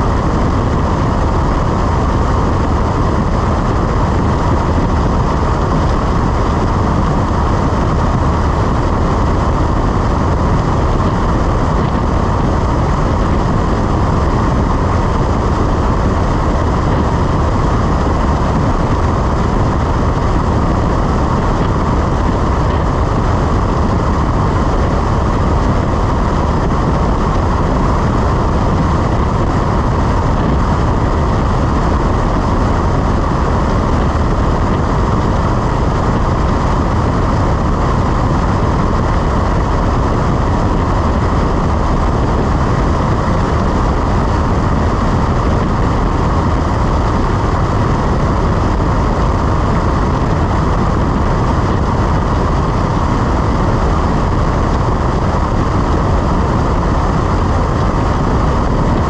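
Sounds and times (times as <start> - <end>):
light aircraft engine in flight: 0.0 - 59.0.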